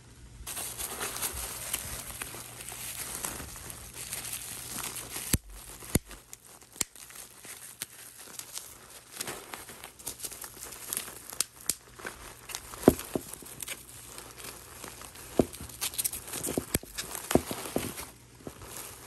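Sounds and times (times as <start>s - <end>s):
bubble wrap crinkling: 0.4s - 19.0s
paper packing filler rustling: 0.5s - 19.0s.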